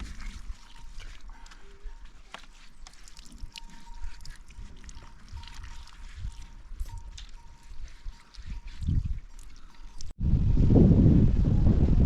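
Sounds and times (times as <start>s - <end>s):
water pouring and trickling: 0.0s - 10.2s.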